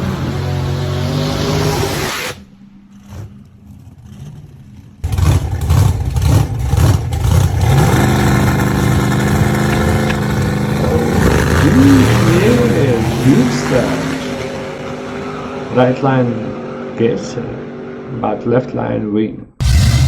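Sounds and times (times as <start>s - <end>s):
engine revving in sharp blips: 0.0s - 18.2s
muscle car engines: 0.0s - 20.0s.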